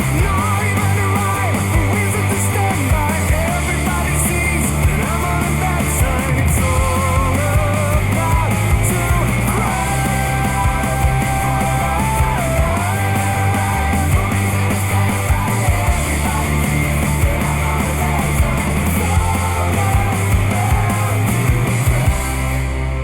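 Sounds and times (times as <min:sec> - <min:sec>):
rock music: 0:00.0 - 0:23.0.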